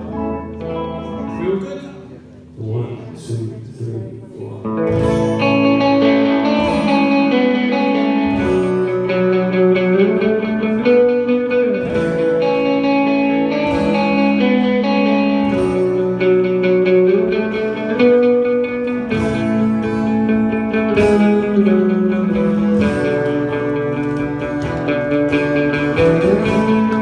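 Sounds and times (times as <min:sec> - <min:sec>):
electric guitar solo: 0:00.0 - 0:02.5, 0:04.6 - 0:27.0.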